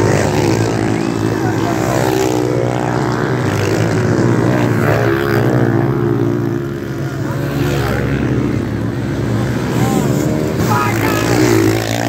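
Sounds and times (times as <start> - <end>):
pit bike engines revving: 0.0 - 12.0.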